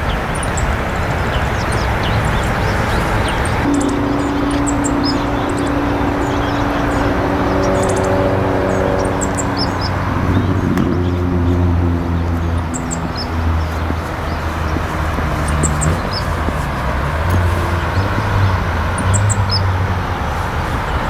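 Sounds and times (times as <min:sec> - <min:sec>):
low engine-like hum: 0:00.0 - 0:21.0
outdoor background noise: 0:00.0 - 0:21.0
small birds chirping: 0:00.0 - 0:21.0.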